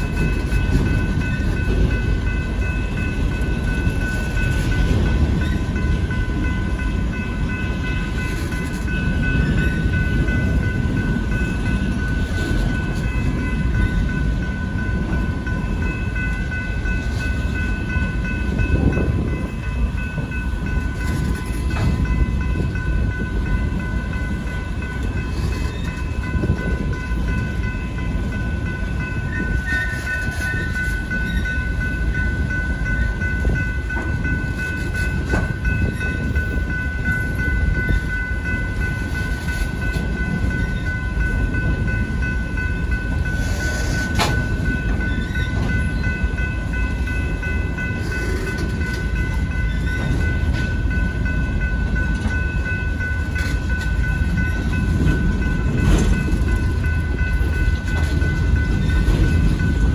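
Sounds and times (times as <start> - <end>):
crossing warning bell: 0.0 - 59.9
train wheels rumbling on rail: 0.0 - 59.9.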